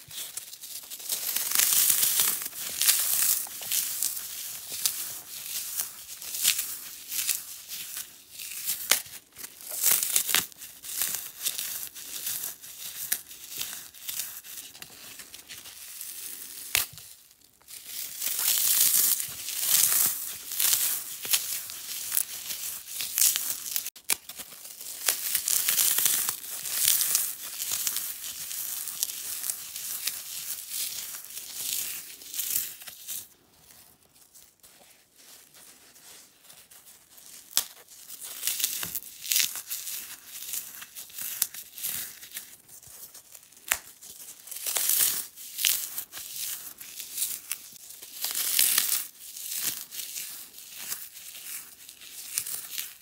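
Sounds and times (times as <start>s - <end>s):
foam crunching and crackling: 0.0s - 53.0s.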